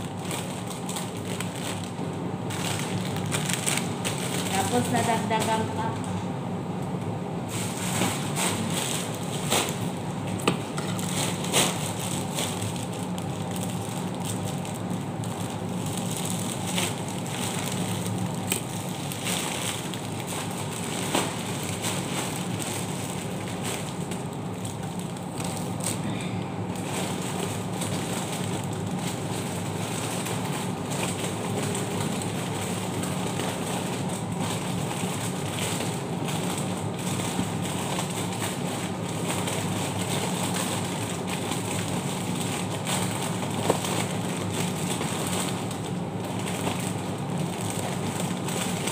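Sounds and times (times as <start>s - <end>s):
plastic wrappers crinkling: 0.0s - 6.2s, 7.4s - 48.9s
steady low hum: 0.0s - 48.9s.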